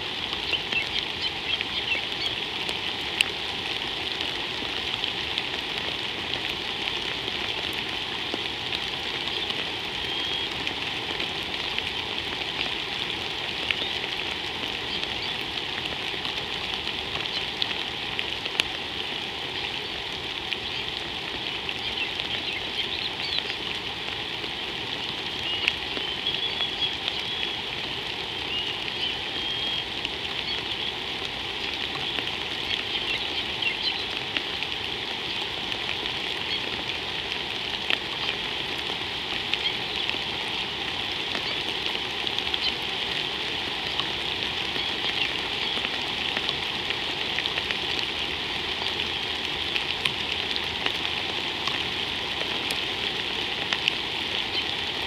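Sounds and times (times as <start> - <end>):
rain falling on water and ground: 0.0 - 55.0.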